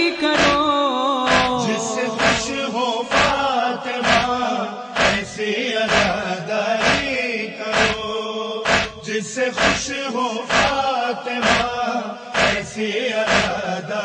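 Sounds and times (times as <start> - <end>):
man chanting a lament: 0.0 - 14.0
heavy steady beat: 0.4 - 0.7, 1.3 - 13.8.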